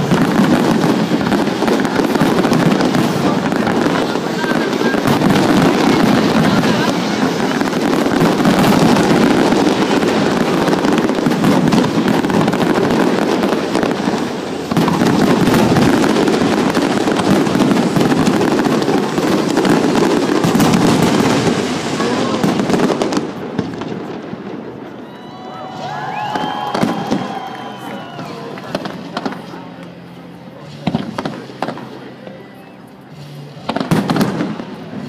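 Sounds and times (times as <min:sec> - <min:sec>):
fireworks crackling and popping: 0:00.0 - 0:35.0.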